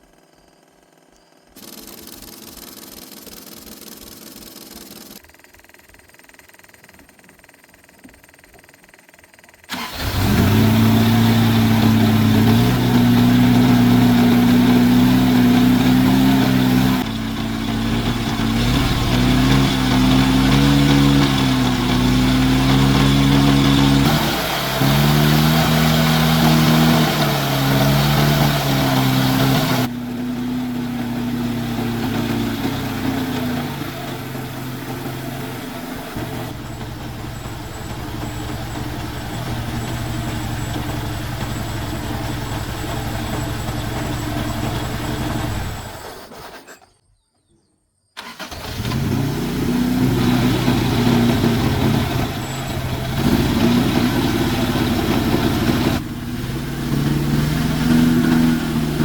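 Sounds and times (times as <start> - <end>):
car engine revving and running: 1.6 - 5.2, 9.7 - 46.6, 48.2 - 59.0.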